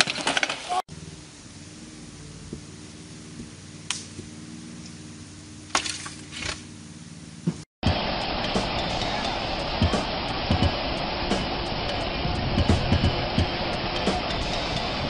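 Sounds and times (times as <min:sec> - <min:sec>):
steady low hum: 0:00.9 - 0:15.0.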